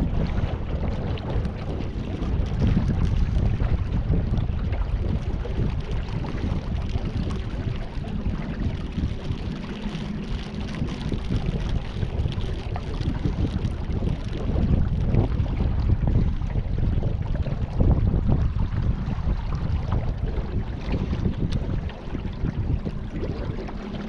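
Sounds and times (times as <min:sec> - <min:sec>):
water noise: 0:00.0 - 0:24.0
wind buffeting microphone: 0:00.0 - 0:24.0.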